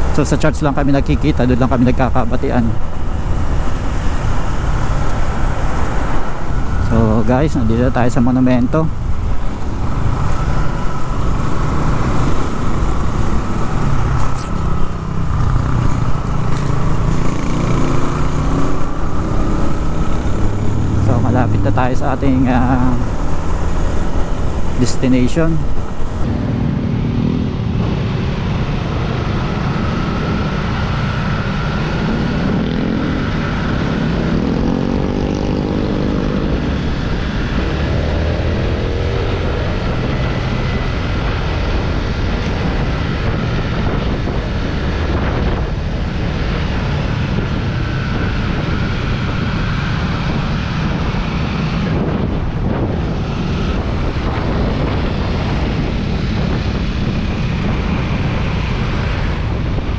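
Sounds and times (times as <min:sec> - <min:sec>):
motorcycle engine accelerating: 0:00.0 - 0:59.9
wind rushing over microphone: 0:00.0 - 0:59.9.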